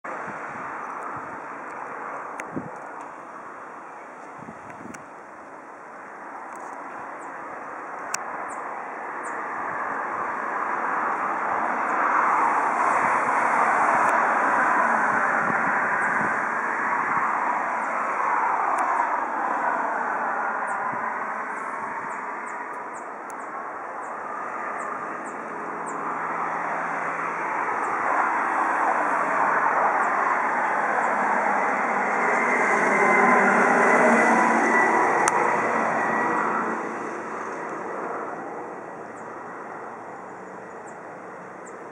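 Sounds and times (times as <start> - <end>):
jet airliner rumble and whine: 0.1 - 41.9.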